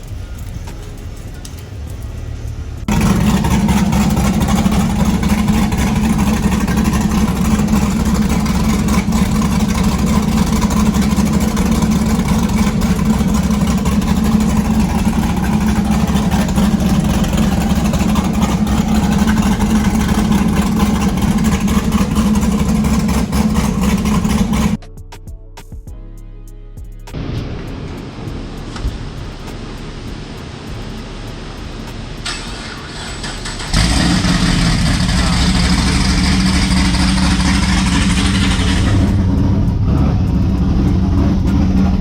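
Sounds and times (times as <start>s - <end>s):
loud vee eight engine running: 0.0s - 24.8s, 27.2s - 42.0s.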